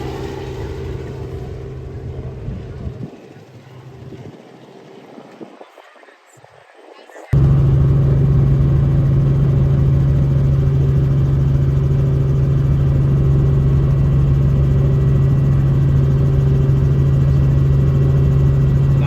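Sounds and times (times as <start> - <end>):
engine running steadily: 0.0 - 5.6, 7.3 - 19.0.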